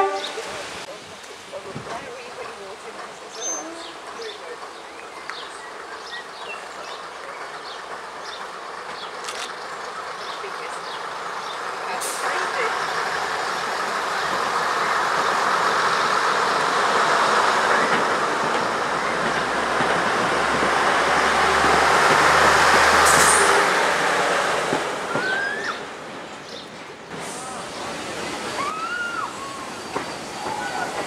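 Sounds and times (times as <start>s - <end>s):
train rumbling past: 0.0s - 31.0s.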